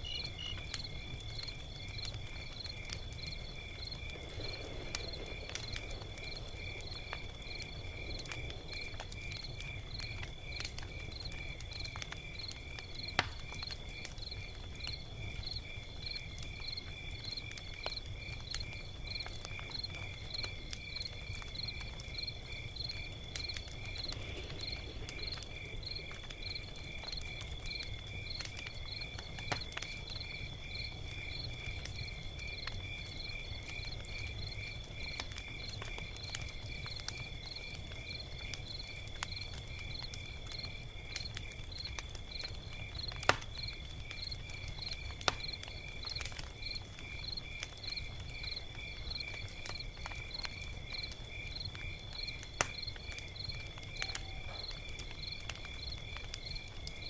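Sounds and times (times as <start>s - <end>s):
insect chorus: 0.0s - 57.0s
log fire crackling and popping: 0.0s - 57.0s.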